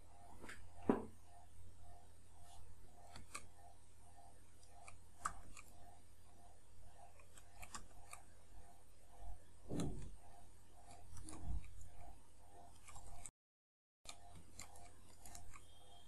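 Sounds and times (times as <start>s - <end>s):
faint low hum: 0.0s - 13.3s.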